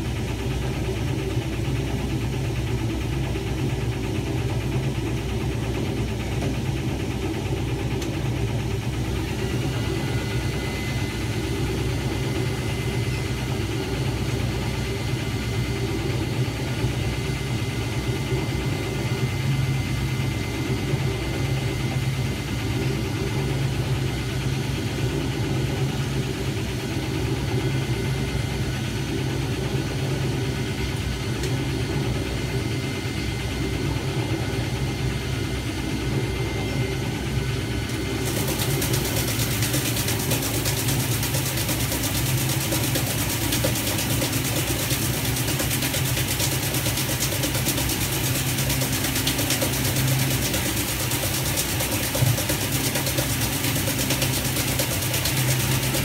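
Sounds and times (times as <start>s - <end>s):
washing machine churning: 0.0s - 56.0s.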